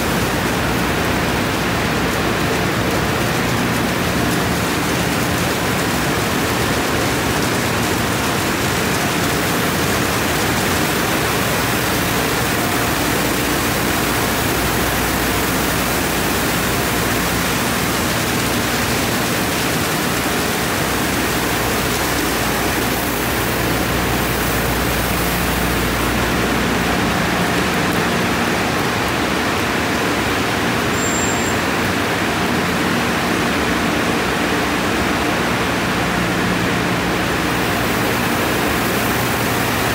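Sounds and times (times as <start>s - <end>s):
spraying water: 0.0s - 39.9s.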